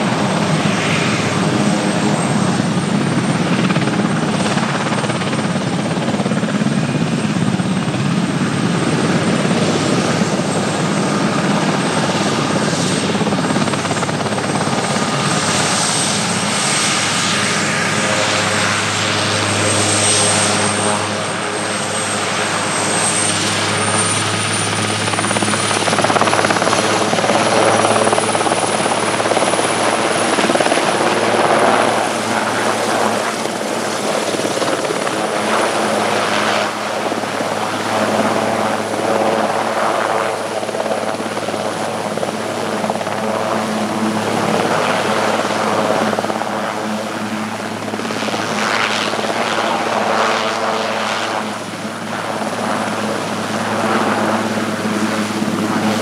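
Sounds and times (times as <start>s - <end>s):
helicopter rotor and engine whine: 0.0s - 56.0s.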